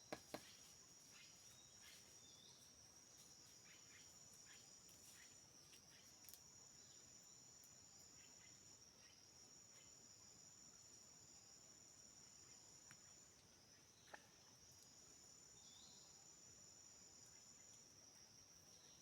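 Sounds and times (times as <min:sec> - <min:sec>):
crickets chirping: 0:00.0 - 0:19.0
insects trilling: 0:00.0 - 0:19.0.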